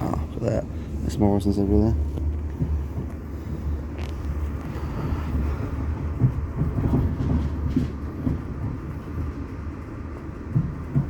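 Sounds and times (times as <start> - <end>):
train wheels rumbling: 0.0 - 11.0
knocks and rattles: 0.1 - 11.0.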